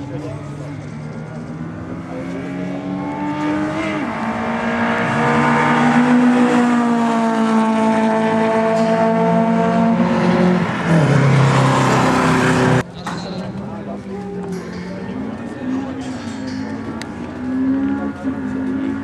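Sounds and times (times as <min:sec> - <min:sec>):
race cars engines roaring: 0:00.0 - 0:19.0.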